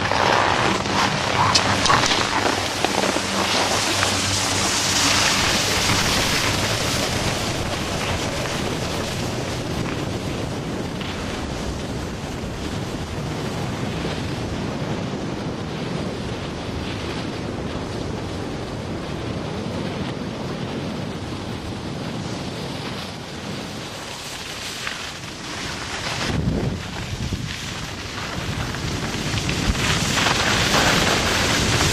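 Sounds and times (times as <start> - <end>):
snowboard sliding on snow: 0.0 - 31.9
wind over microphone: 0.0 - 31.9.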